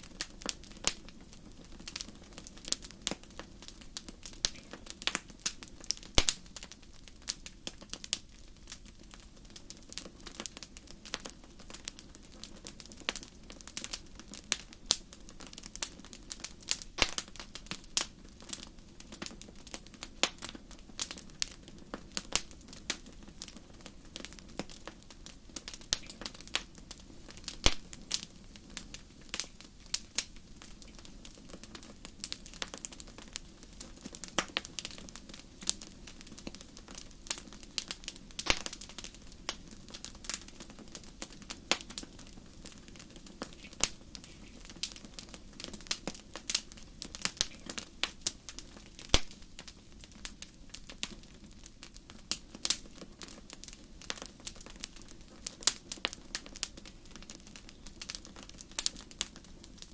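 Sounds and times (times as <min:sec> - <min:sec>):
low hiss of flames: 0:00.0 - 0:59.9
wood fire crackling and popping: 0:00.0 - 0:59.9.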